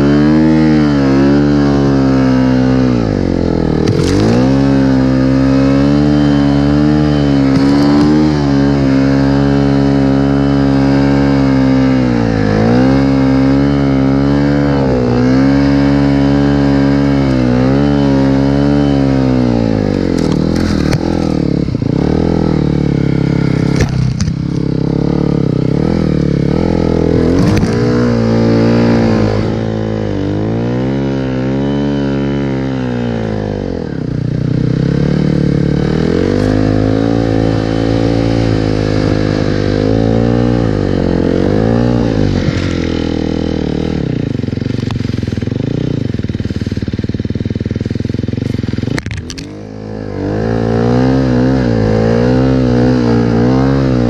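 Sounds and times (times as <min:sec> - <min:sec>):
snow vehicle engine revving: 0:00.0 - 0:54.0.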